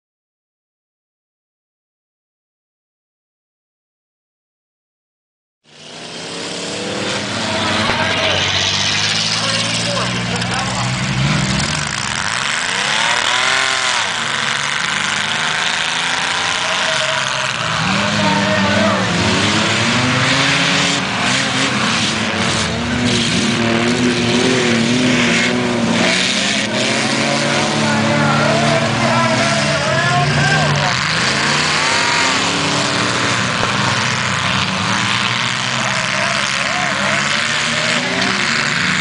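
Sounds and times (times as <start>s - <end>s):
racing engines revving: 5.7s - 39.0s.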